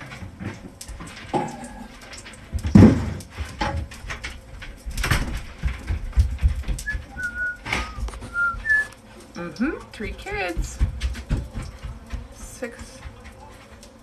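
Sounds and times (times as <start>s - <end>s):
knocks and scuffling: 0.0s - 14.0s.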